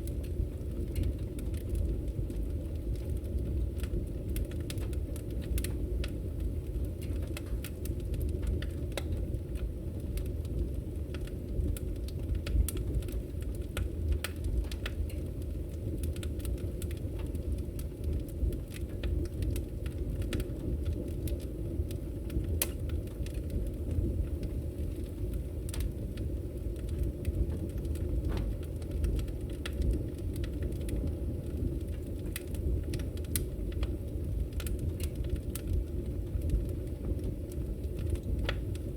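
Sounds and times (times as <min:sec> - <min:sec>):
burning wood crackling and popping: 0:00.0 - 0:38.9
fire low rumble: 0:00.0 - 0:38.9.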